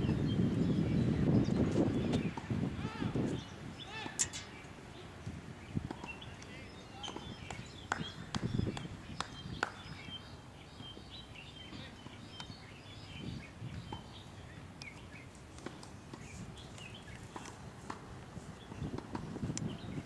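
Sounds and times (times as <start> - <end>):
birds chirping: 0.0 - 20.0
steady outdoor hiss: 0.0 - 20.0.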